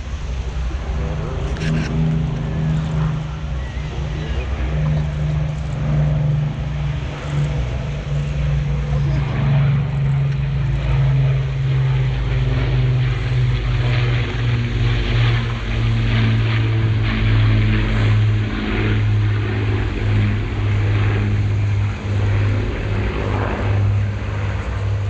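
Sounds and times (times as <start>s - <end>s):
aircraft piston engines droning: 0.0s - 25.0s.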